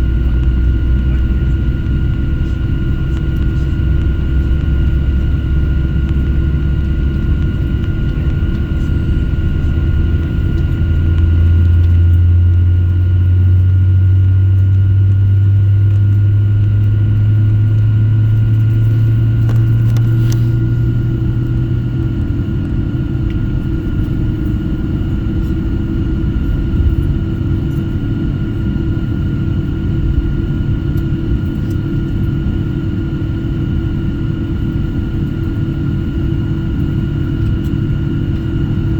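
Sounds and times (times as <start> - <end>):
airplane engines running: 0.0 - 38.9
deeper engine drone: 0.0 - 38.9.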